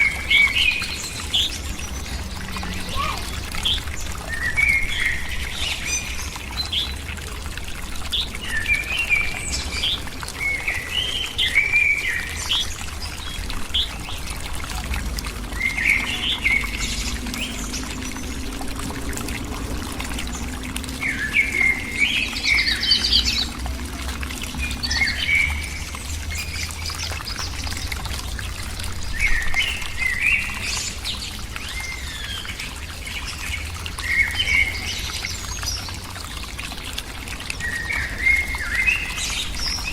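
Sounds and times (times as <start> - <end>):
small birds chirping: 0.0 - 7.4, 8.0 - 39.9
running water: 0.0 - 39.9.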